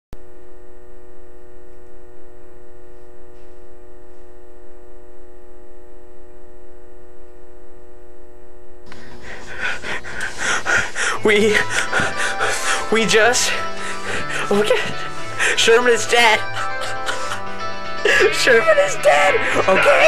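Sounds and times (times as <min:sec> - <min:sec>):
steady hum with overtones: 0:00.2 - 0:20.0.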